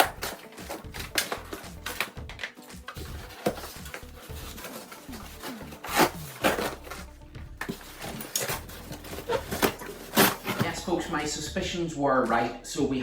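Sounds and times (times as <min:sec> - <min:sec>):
wooden parts knocking and rubbing: 0:00.0 - 0:10.8
background music: 0:00.0 - 0:13.0.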